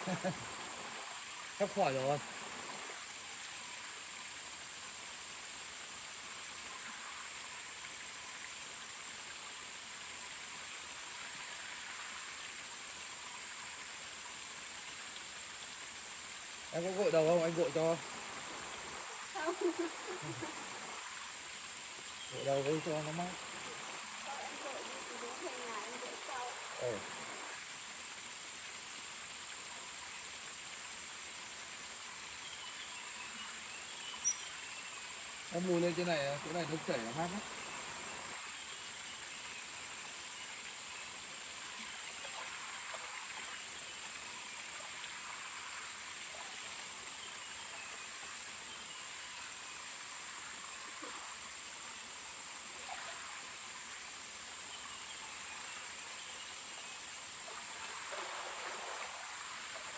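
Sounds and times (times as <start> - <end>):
insects droning: 0.0 - 59.9
stream water rushing: 0.0 - 59.9.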